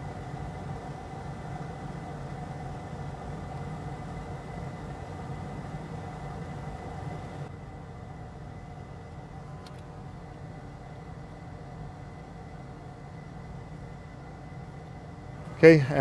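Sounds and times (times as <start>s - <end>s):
machine hum with whining tones: 0.0s - 16.0s.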